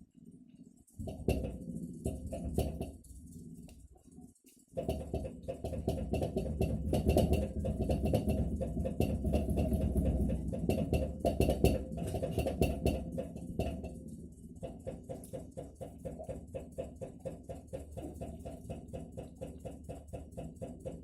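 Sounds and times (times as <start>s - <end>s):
low refrigerator hum: 0.0s - 21.0s
refrigerator knocking: 1.0s - 3.1s, 4.8s - 21.0s.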